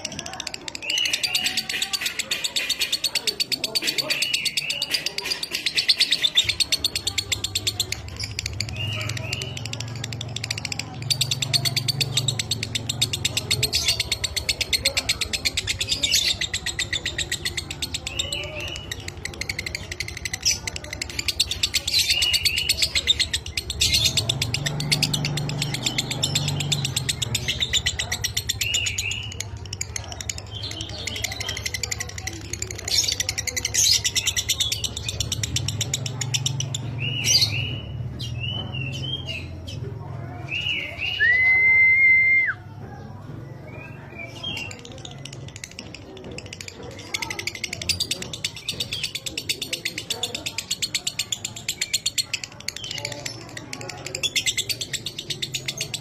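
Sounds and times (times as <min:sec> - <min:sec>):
lovebird chattering trill: 0:00.0 - 0:39.5, 0:43.8 - 0:56.0.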